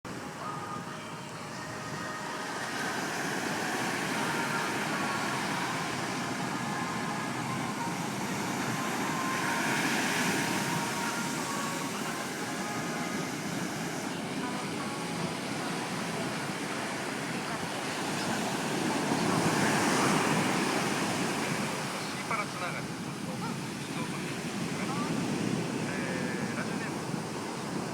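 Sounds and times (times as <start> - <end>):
surf breaking on beach: 1.8 - 27.9.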